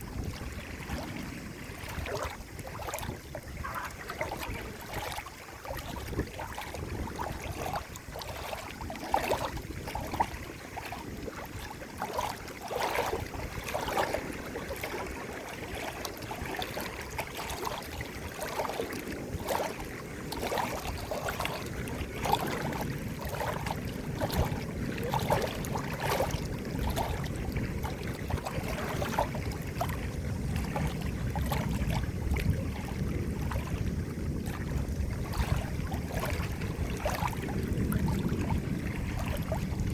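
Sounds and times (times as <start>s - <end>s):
flowing water: 0.0s - 39.9s
small plops and bubbles: 0.0s - 39.9s
water gurgling and lapping: 0.0s - 39.9s.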